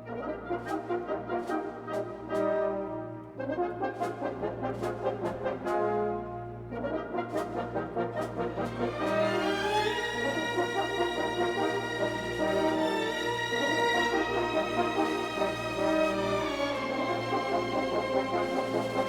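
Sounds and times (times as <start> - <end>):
brass-like chords: 0.0 - 19.0.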